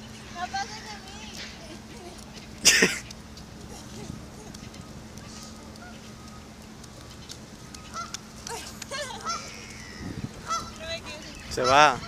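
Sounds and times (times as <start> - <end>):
waterbirds honking: 0.0 - 12.0.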